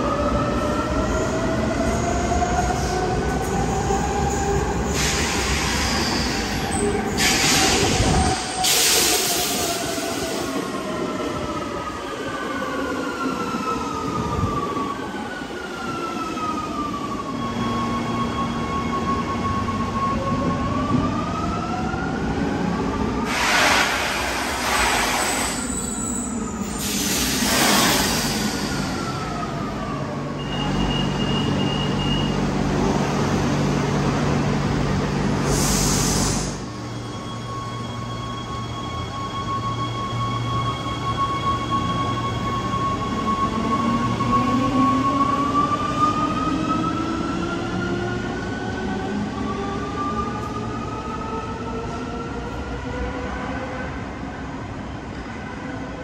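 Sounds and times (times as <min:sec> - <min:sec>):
metro train wheels rumbling: 0:00.0 - 0:56.0.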